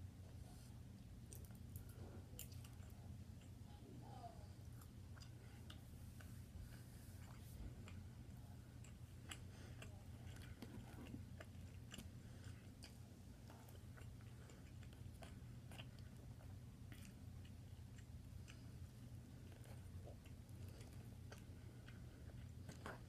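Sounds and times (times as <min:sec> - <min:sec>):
chewing food: 0:00.2 - 0:03.8, 0:04.6 - 0:23.0.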